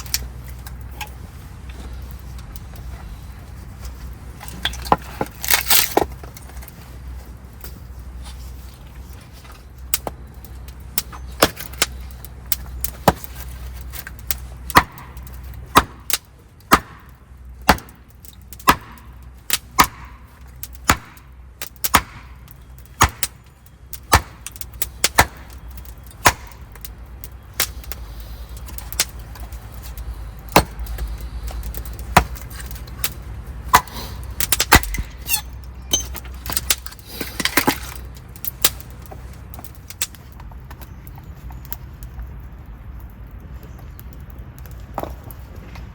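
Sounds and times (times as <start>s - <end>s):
low steady rumble: 0.0s - 45.9s.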